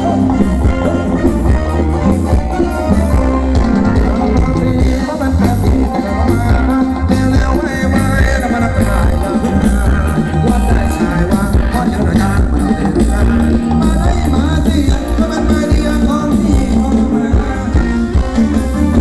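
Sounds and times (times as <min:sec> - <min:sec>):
live band dance music: 0:00.0 - 0:19.0
person singing: 0:00.0 - 0:19.0.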